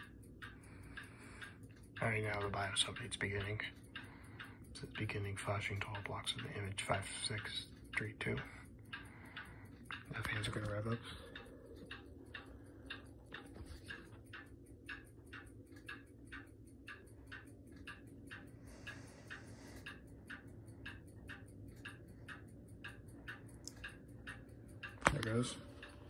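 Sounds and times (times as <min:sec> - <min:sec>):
faint steady ticking: 0:00.0 - 0:26.0.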